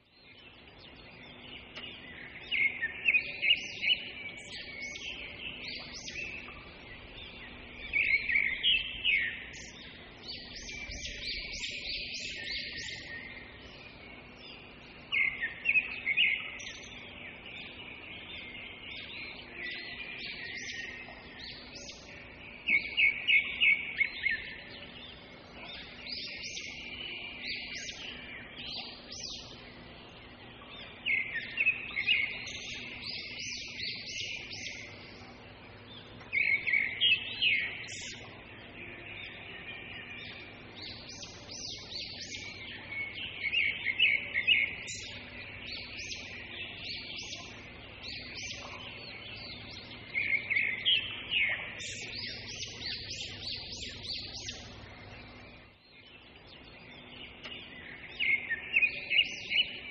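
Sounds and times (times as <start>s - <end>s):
birds chirping: 0.0s - 59.9s
continuous bird twittering: 0.0s - 59.9s.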